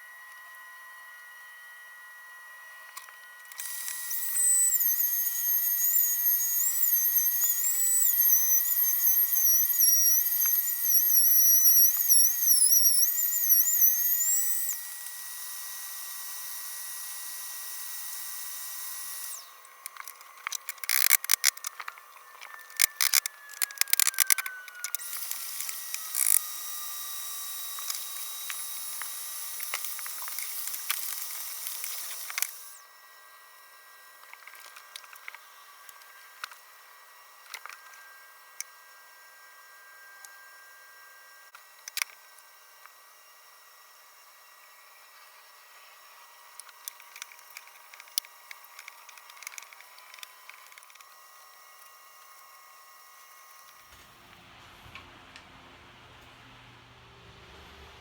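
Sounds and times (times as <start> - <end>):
circular saw motor whining: 0.0 - 58.0.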